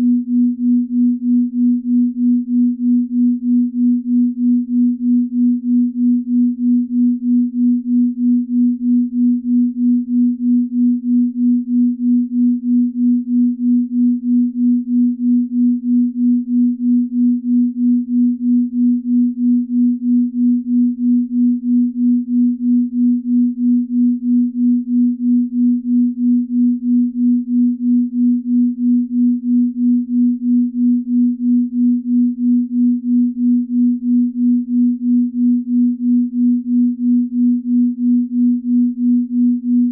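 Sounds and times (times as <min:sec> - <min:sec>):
pulsing pure tone: 0:00.0 - 0:39.9.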